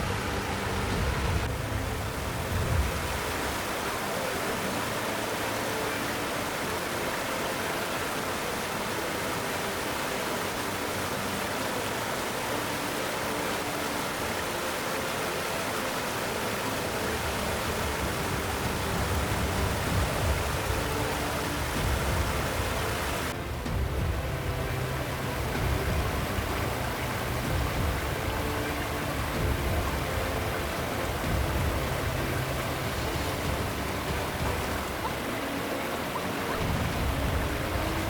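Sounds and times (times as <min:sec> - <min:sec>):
rushing water hiss: 0:00.0 - 0:38.0.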